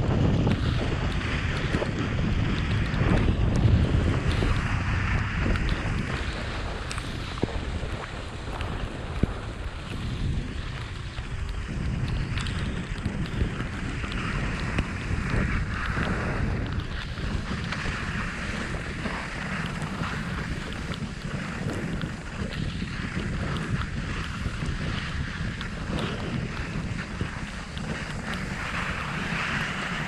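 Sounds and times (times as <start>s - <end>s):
edges scraping over packed snow: 0.0s - 30.0s
wind buffeting microphone: 0.0s - 30.0s.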